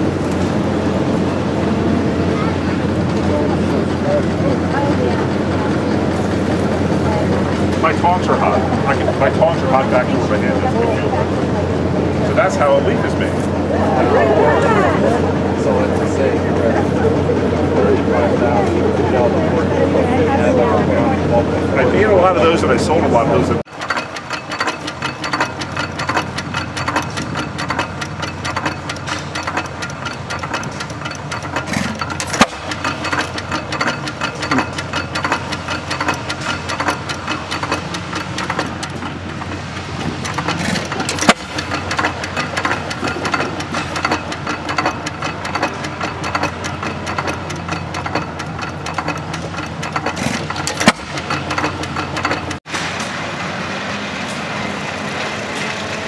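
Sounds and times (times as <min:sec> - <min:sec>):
engine cracks: 0:00.0 - 0:56.0
stationary gas engine clattering: 0:00.0 - 0:56.0.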